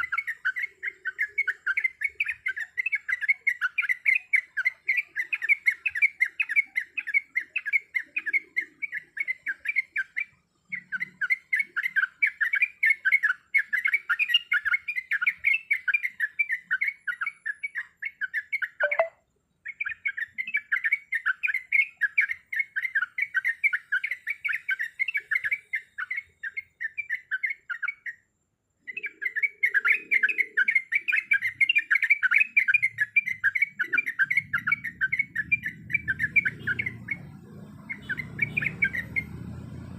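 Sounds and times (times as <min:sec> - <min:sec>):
bird singing chattering runs: 0:00.0 - 0:39.9.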